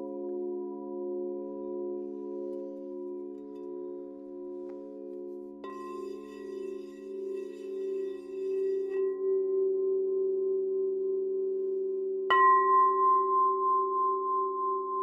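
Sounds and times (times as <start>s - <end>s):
low singing bowls humming: 0.0s - 15.0s.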